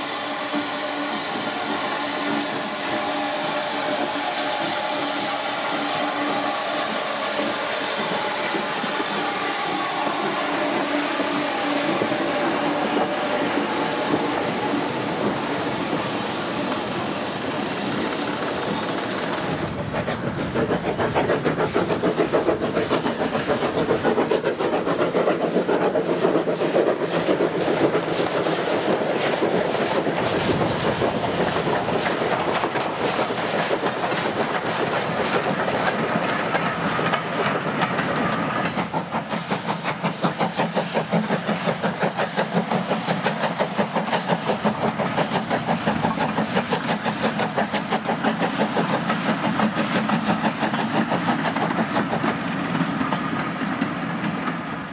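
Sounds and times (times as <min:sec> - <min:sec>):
steam locomotive working steam: 0:00.0 - 0:54.9.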